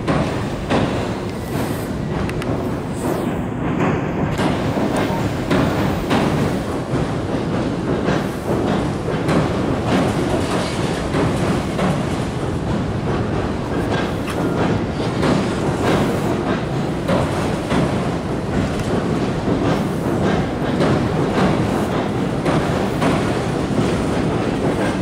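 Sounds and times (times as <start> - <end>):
wheels clacking over rail joints: 0.0 - 3.0, 3.6 - 25.0
train rumbling over steel bridge: 0.0 - 25.0.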